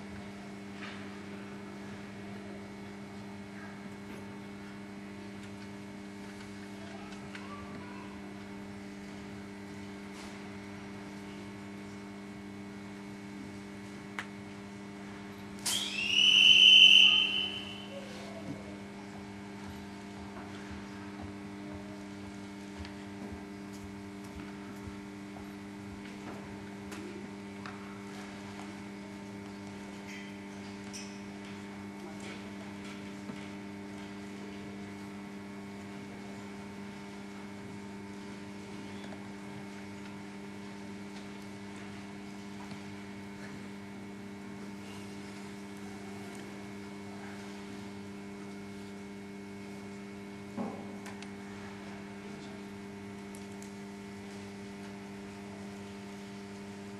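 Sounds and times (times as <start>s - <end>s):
electrical hum: 0.0s - 56.9s.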